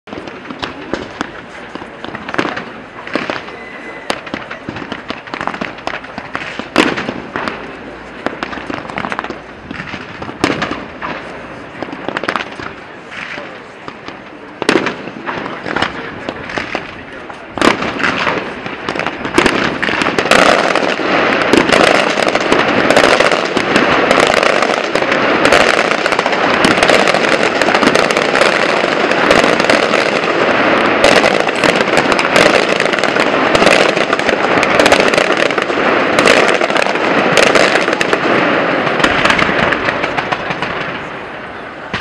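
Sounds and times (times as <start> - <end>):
fireworks crackling and popping: 0.0 - 42.0.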